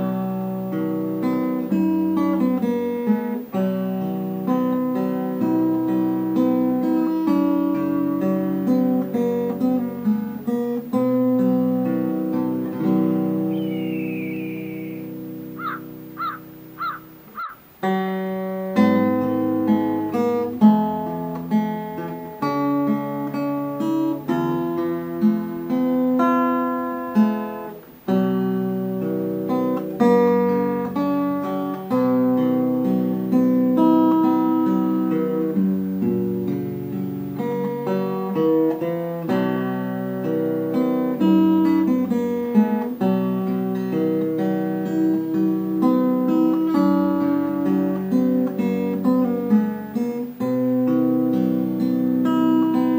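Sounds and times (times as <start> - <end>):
acoustic guitar playing: 0.0 - 52.9.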